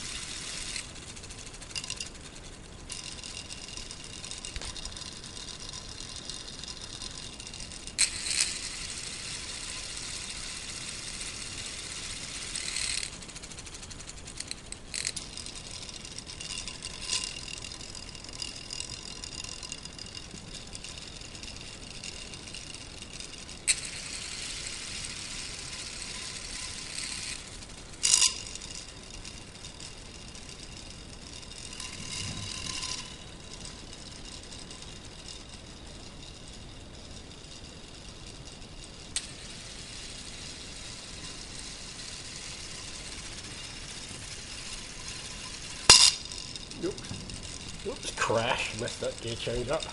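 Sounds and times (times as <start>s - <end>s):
plastic gears rattling: 0.0s - 49.9s.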